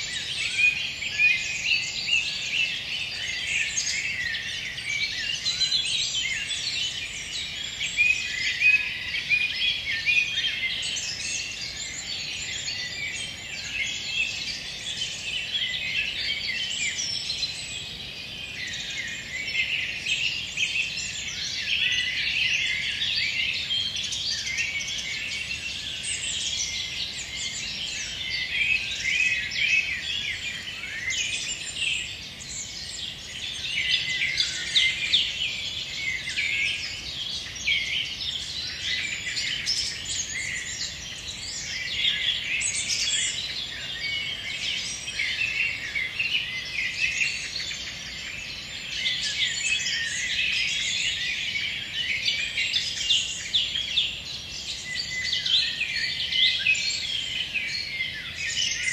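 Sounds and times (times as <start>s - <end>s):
forest songbirds singing: 0.0s - 58.9s.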